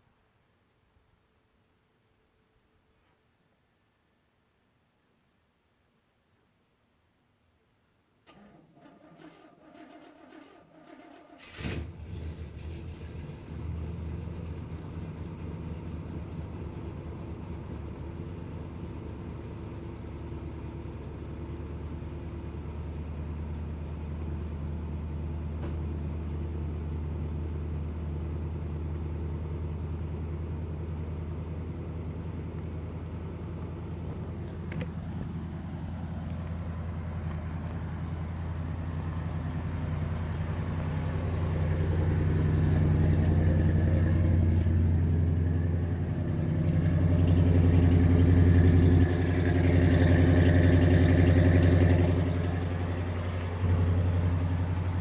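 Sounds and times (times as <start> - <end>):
truck engine idling: 8.4 - 55.0.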